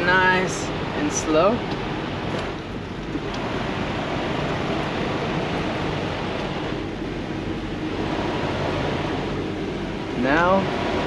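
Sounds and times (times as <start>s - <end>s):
diesel truck engine running: 0.0s - 11.0s
even rushing noise: 0.0s - 11.0s.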